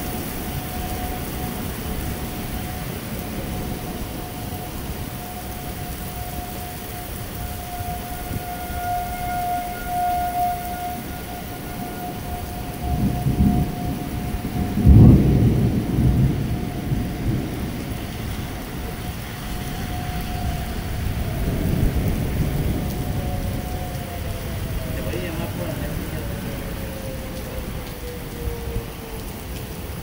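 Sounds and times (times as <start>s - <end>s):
heavy rain on pavement: 0.0s - 30.0s
thunder rumbling: 0.0s - 30.0s.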